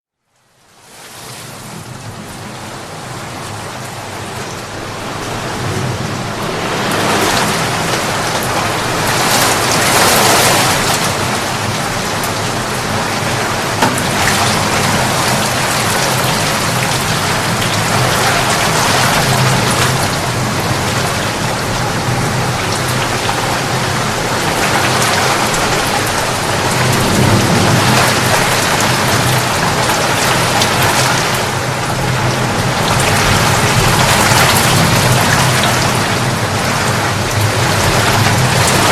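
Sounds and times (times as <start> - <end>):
heavy rain: 0.3 - 38.9.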